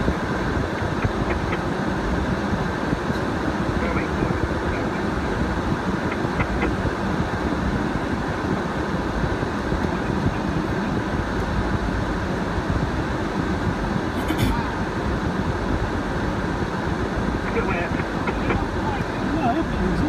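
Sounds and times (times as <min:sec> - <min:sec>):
vehicle rumble from inside cabin: 0:00.0 - 0:20.0.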